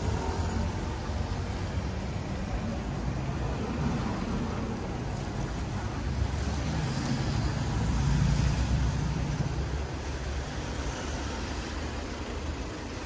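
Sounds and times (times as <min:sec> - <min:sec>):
passing vehicle engine rumble: 0:00.0 - 0:13.0.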